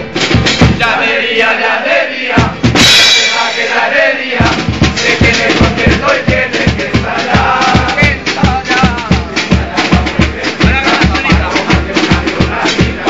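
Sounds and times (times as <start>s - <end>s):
bass drum beating: 0.0s - 1.0s, 2.3s - 13.0s
snare drum beating: 2.4s - 13.0s.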